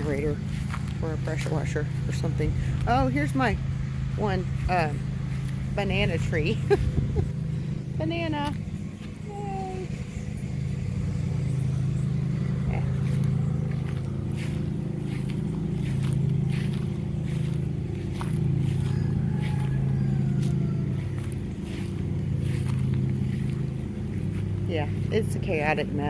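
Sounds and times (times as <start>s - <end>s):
small engine droning: 0.0s - 26.0s.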